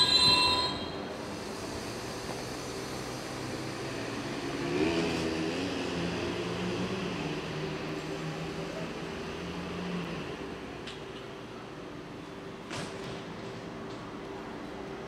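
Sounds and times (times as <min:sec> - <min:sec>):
train mechanical hum: 0:00.0 - 0:04.6, 0:07.0 - 0:15.0.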